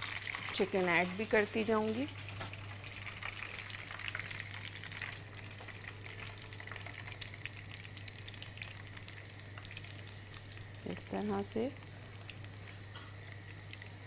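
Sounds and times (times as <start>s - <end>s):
chicken deep-frying in oil: 0.0s - 14.0s
low steady hum: 0.0s - 14.0s.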